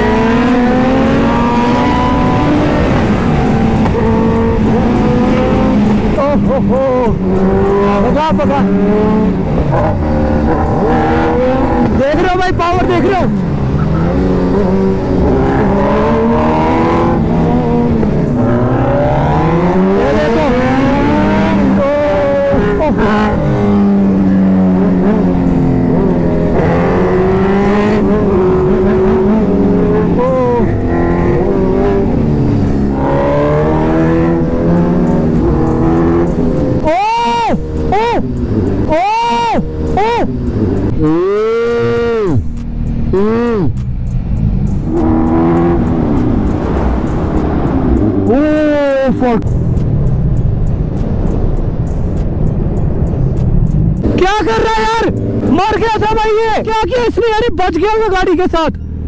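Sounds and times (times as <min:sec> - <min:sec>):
motorcycle engine revving: 0:00.0 - 0:36.9, 0:37.5 - 0:51.0, 0:53.3 - 0:55.6.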